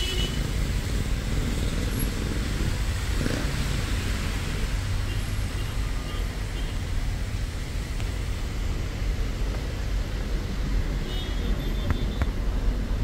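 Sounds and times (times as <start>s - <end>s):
traffic on wet road: 0.0s - 13.0s.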